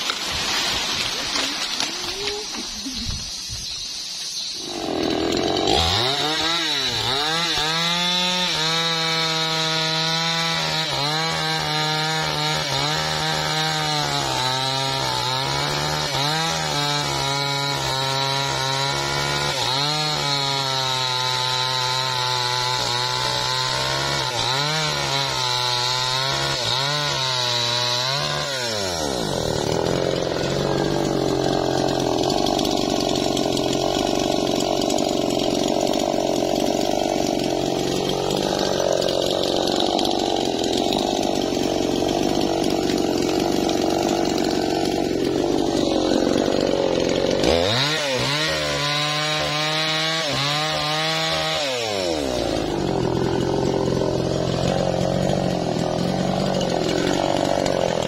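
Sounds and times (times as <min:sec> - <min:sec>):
chainsaw cutting log: 0:00.0 - 0:03.4, 0:04.2 - 0:58.0.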